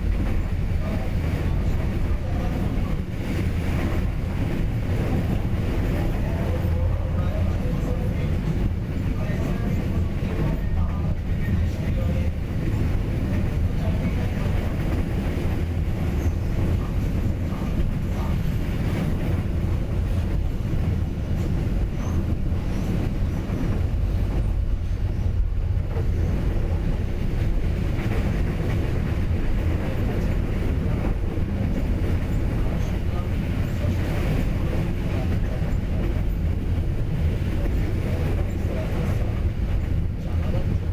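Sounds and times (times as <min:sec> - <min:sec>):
train rumbling on rails: 0:00.0 - 0:40.9.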